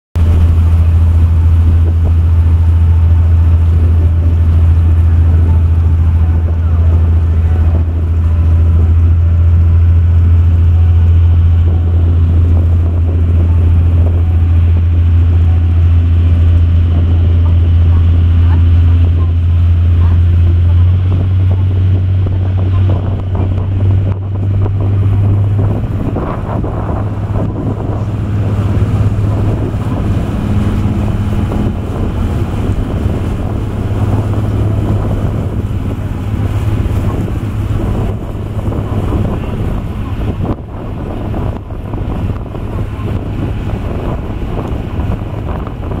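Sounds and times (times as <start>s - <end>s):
boat engine droning: 0.2s - 46.0s
water splashing along hull: 0.2s - 46.0s
wind buffeting microphone: 0.2s - 46.0s.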